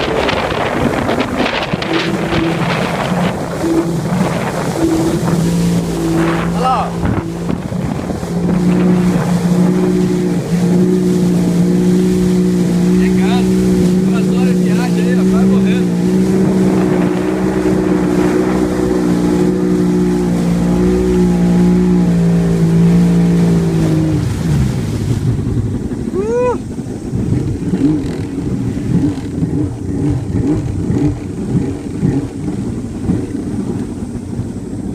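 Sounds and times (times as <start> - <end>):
jet ski engine running: 0.0 - 34.9.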